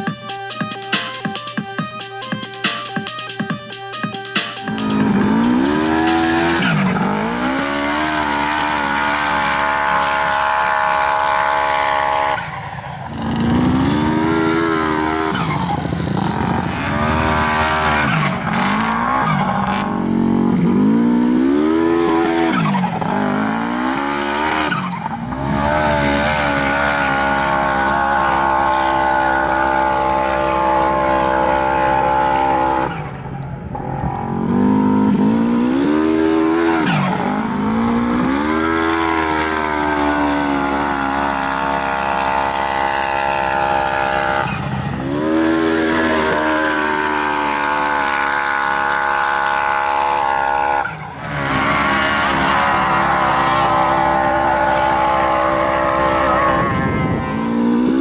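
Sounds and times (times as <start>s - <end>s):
engine revving at full throttle: 4.1s - 58.0s.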